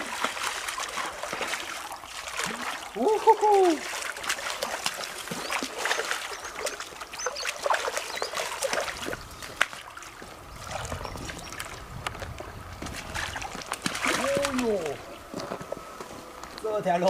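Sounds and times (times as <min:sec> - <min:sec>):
fish splashing in water: 0:00.0 - 0:15.4.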